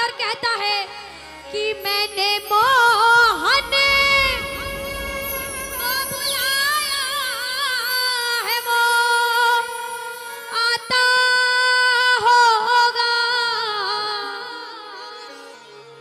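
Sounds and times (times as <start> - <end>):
woman singing devotional song: 0.0 - 15.6.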